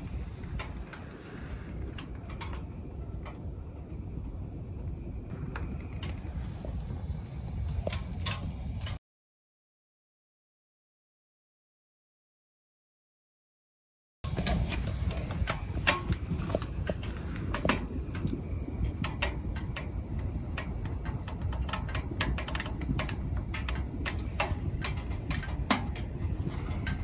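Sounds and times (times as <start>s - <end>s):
firewood crackling in a stove: 0.0s - 9.0s, 14.3s - 27.0s
low stove rumble: 0.0s - 9.0s, 14.3s - 27.0s.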